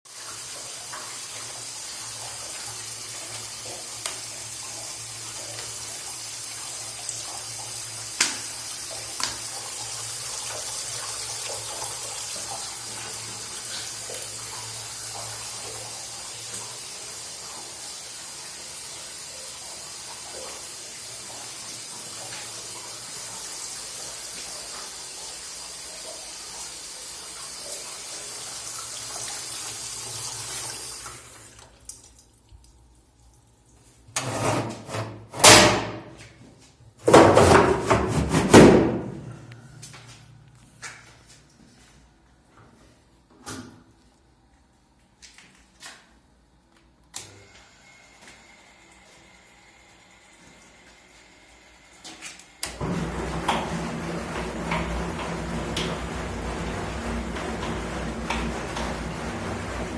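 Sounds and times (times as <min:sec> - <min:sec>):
washing machine water churning: 0:00.1 - 0:36.1, 0:37.0 - 0:39.5, 0:47.3 - 0:59.9.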